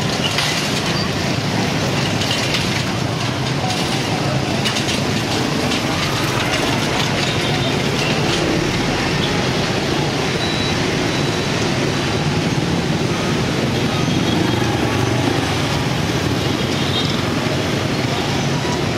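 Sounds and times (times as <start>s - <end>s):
motorbike and scooter traffic: 0.0s - 18.9s.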